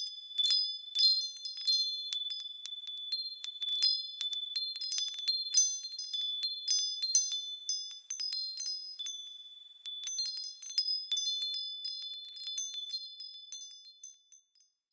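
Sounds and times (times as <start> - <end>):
wind chimes tinkling: 0.0 - 14.9.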